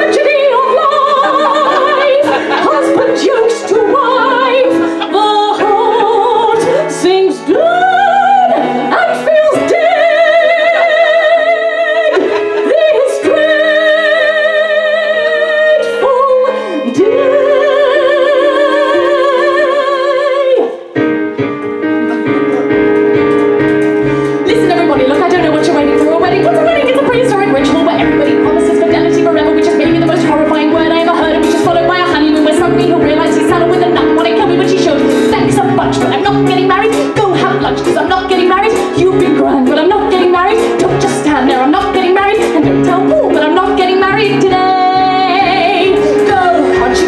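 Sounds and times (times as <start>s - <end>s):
woman singing operatic soprano: 0.0s - 20.9s, 24.5s - 47.0s
piano accompaniment: 0.0s - 47.0s.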